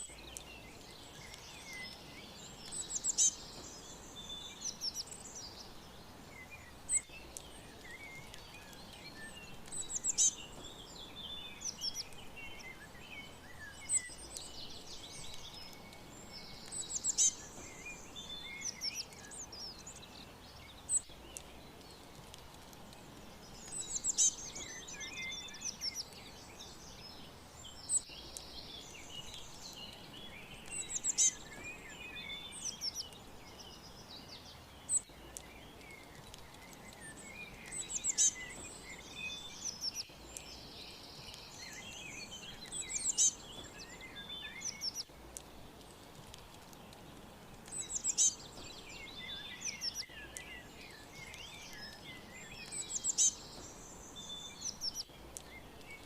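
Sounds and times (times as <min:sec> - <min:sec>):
faint steady hiss: 0:00.0 - 0:56.0
songbirds chirping and twittering: 0:00.0 - 0:56.0.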